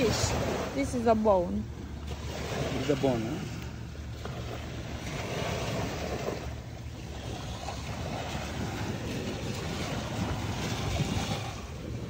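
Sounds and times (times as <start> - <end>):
waves washing on shore: 0.0 - 12.0
wind buffeting microphone: 0.0 - 12.0.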